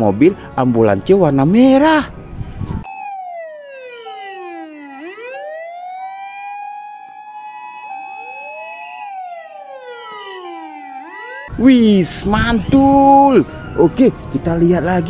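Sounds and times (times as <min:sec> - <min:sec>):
two-tone ambulance siren: 0:02.6 - 0:15.0
wailing siren: 0:02.6 - 0:15.0.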